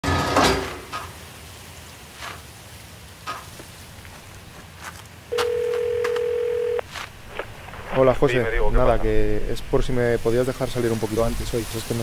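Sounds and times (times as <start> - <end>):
rain hiss: 0.4 - 12.0.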